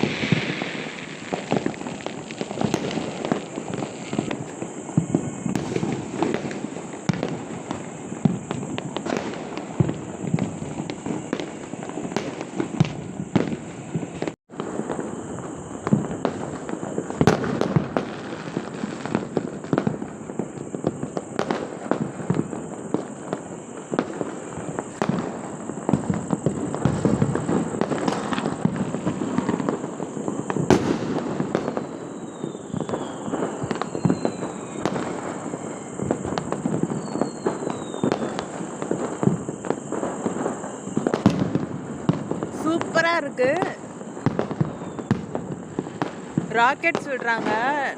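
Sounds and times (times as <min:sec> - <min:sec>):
falling rocket whistle: 0:00.0 - 0:18.6, 0:23.6 - 0:45.9
fireworks and firecrackers bangs: 0:00.0 - 0:47.9.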